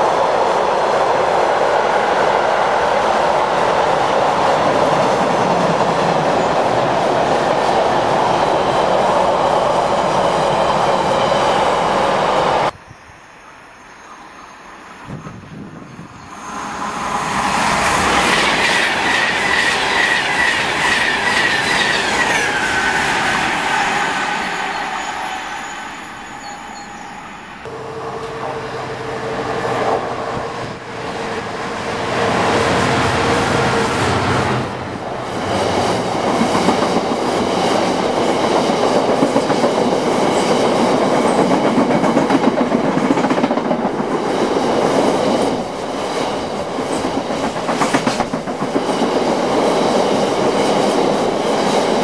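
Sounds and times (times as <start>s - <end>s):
electric train passing: 0.0s - 52.0s
freight train rolling past: 0.0s - 52.0s
train high whine: 0.0s - 52.0s.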